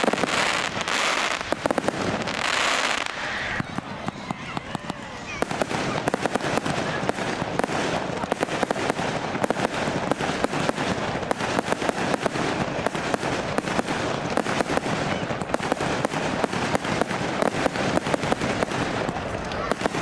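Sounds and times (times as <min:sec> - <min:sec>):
fireworks crackling and banging: 0:00.0 - 0:20.0.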